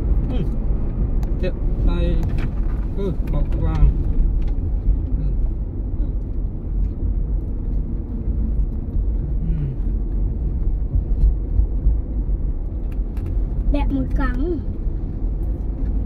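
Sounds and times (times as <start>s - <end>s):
road and tyre rumble in car cabin: 0.0s - 16.0s.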